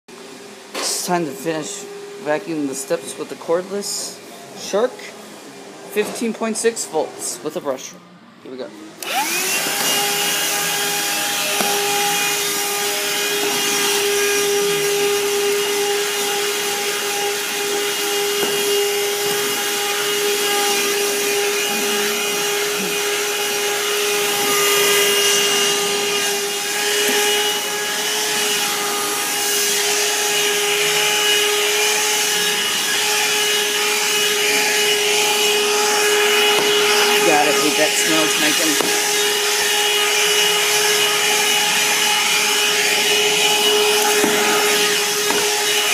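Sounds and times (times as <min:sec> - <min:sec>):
handheld vacuum running: 0:09.0 - 0:45.9.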